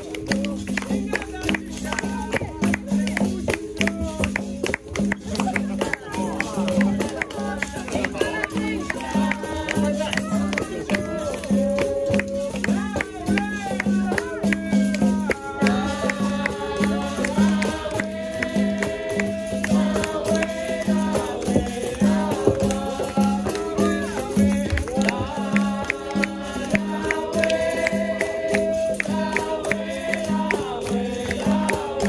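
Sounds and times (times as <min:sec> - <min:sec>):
group singing: 0:00.0 - 0:32.0
hand drum beat: 0:00.0 - 0:32.0.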